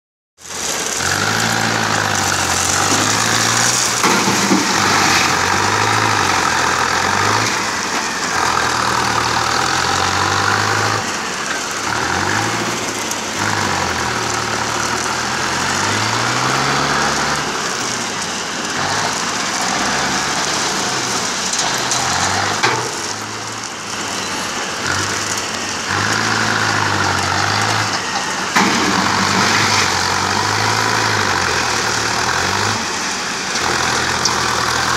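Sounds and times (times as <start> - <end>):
tractor diesel engine revving: 0.4 - 34.9.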